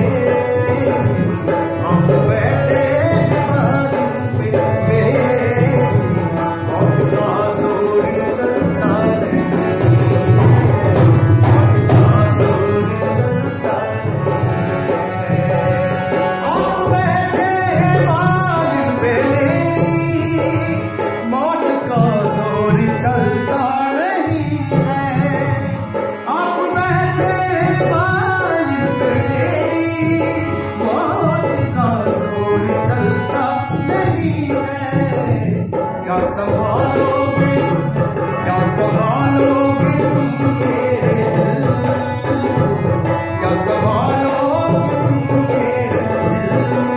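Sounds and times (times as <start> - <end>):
harmonium: 0.0 - 46.9
man singing: 0.0 - 46.9.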